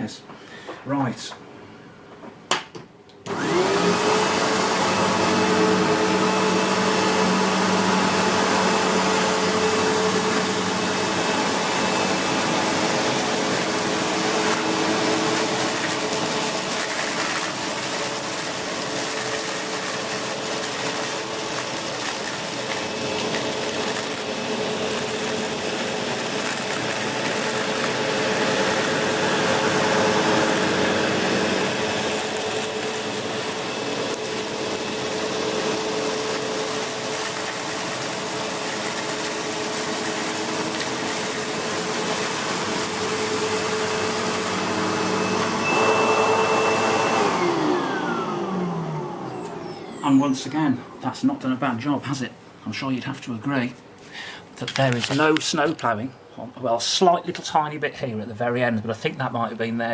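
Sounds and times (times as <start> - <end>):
vacuum cleaner motor whining: 3.2 - 51.4.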